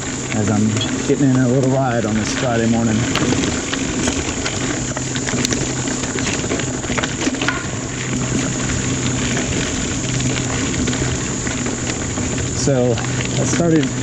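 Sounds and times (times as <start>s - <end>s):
bicycle tyres on dirt trail: 0.0s - 14.0s
bike clicks and rattles: 0.0s - 14.0s
wind noise: 0.0s - 14.0s.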